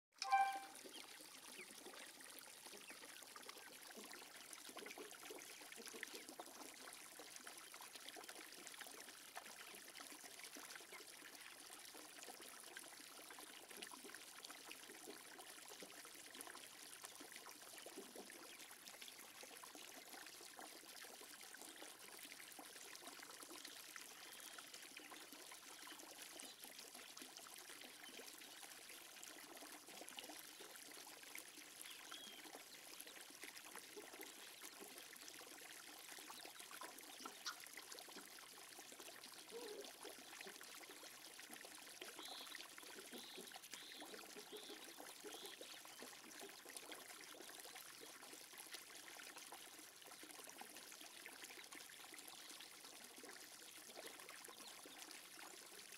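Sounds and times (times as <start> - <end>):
water trickling into a pond: 0.2 - 55.9.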